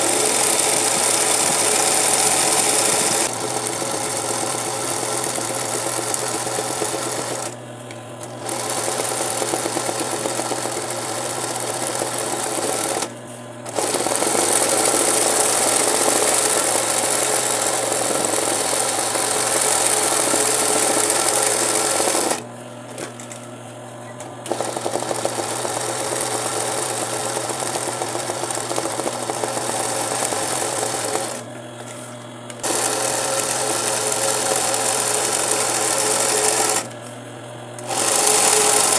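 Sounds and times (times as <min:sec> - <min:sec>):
sewing machine stitching: 0:00.0 - 0:07.6, 0:08.2 - 0:13.1, 0:13.7 - 0:22.4, 0:24.4 - 0:31.4, 0:32.6 - 0:36.9, 0:37.8 - 0:38.9.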